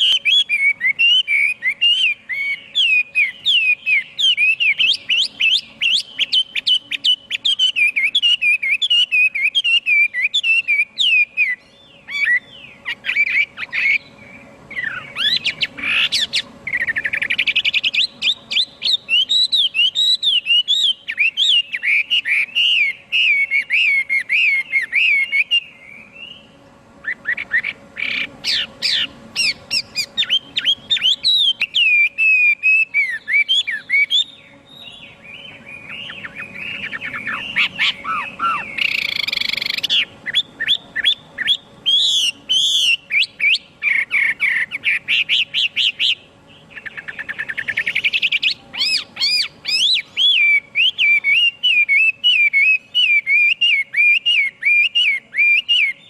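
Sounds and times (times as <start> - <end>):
bird singing whistled phrases: 0.0 - 56.0.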